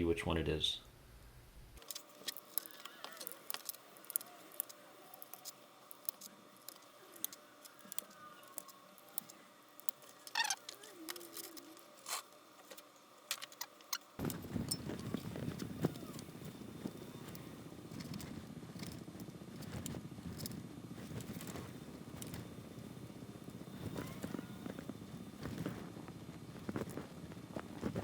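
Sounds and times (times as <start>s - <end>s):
faint steady hum: 0.0s - 28.0s
handling noise: 1.8s - 28.0s.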